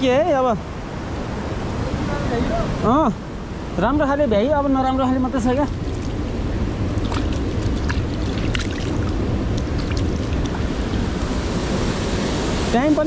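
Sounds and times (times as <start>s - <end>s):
river water rushing: 0.0s - 13.0s
wind rumbling on microphone: 0.0s - 13.0s.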